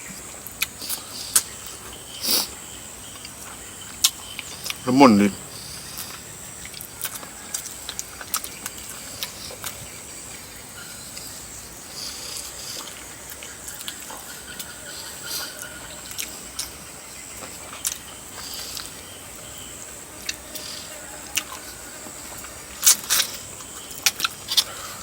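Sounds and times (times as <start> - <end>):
wet chewing and lip smacks: 0.4 - 4.8, 5.6 - 19.6, 20.2 - 25.0.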